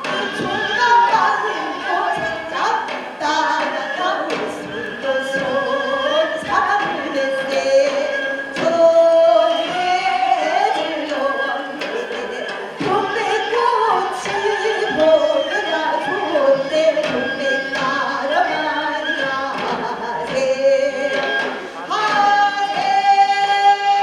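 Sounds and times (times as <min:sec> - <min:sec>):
person singing folk song: 0:00.0 - 0:24.0.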